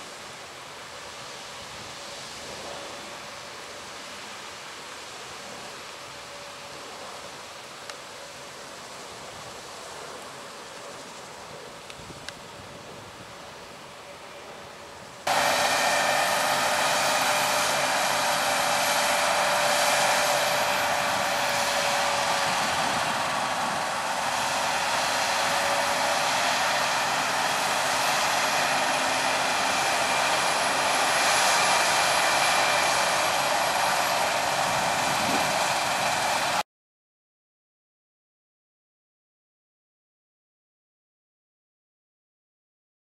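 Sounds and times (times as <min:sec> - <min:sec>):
combine harvester hum and whine: 0:00.0 - 0:36.6.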